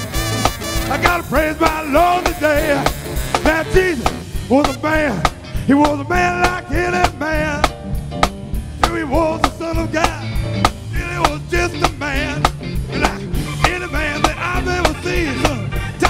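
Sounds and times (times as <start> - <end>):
man singing with vibrato: 0.0 - 7.8, 8.8 - 16.0
drum kit beat: 0.0 - 16.0
electric guitars: 0.0 - 16.0
keyboards: 0.0 - 16.0.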